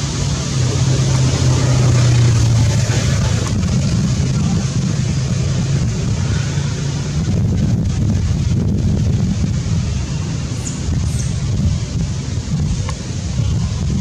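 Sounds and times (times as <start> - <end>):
constant wash of noise: 0.0 - 14.0
low engine drone: 0.0 - 14.0.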